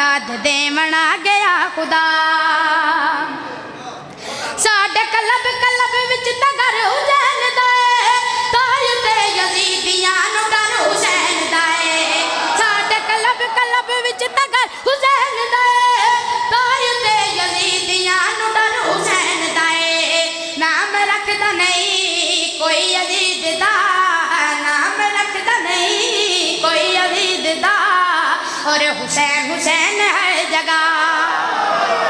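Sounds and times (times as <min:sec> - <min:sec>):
person singing with vibrato: 0:00.0 - 0:32.0.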